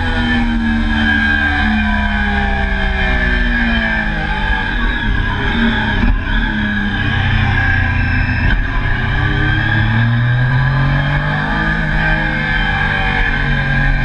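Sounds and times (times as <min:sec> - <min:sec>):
motorcycle engine running hard: 0:00.0 - 0:14.0.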